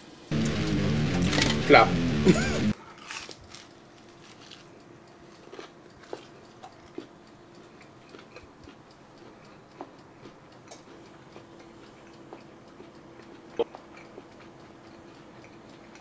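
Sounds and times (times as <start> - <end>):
chewing with crackles: 3.0 - 16.0.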